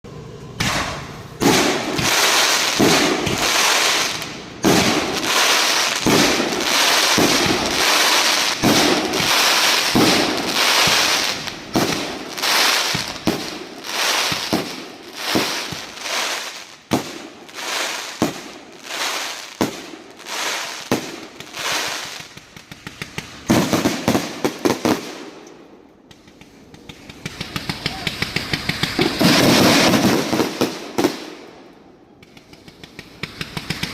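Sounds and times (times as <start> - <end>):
fireworks bangs and crackling: 0.1 - 33.9
rapid sharp firework pops: 0.6 - 31.4, 32.2 - 33.9.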